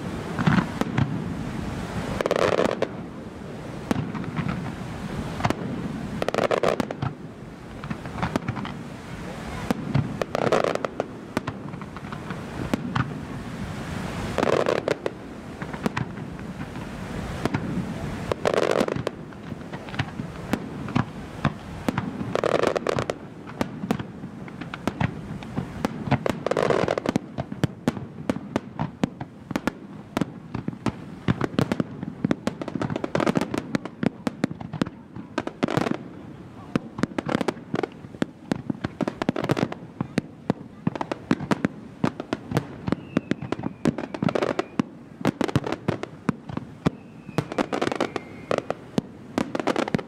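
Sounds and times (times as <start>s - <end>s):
fireworks bangs and crackles: 0.0s - 50.0s.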